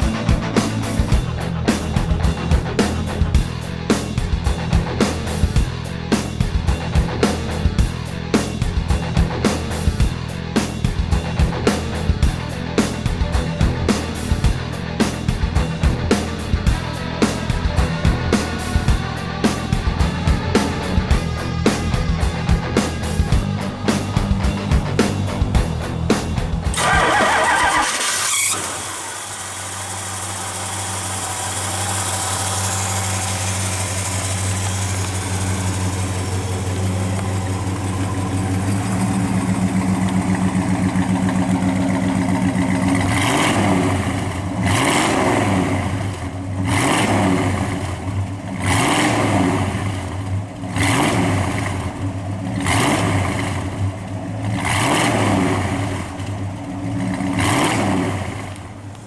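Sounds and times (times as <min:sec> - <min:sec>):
car engine idling: 0:00.0 - 0:59.0
engine revving: 0:00.0 - 0:59.0.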